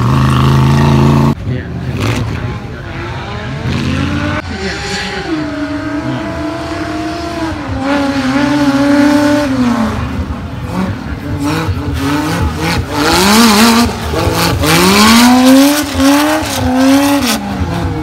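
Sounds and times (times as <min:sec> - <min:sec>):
offroad vehicle engine revving: 0:00.0 - 0:18.0.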